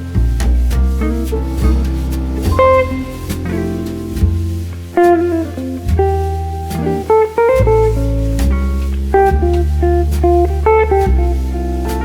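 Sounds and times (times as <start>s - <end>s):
bass line: 0.0s - 12.0s
plucked guitar melody: 0.0s - 12.0s.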